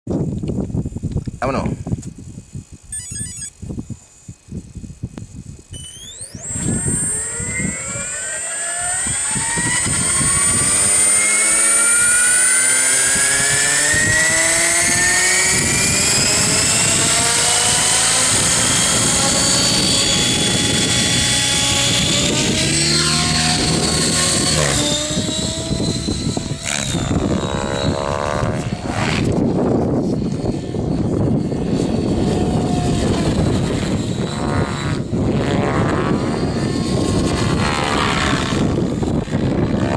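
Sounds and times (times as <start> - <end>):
electric helicopter motor whine: 2.0 - 39.9
rotor noise: 5.7 - 39.9.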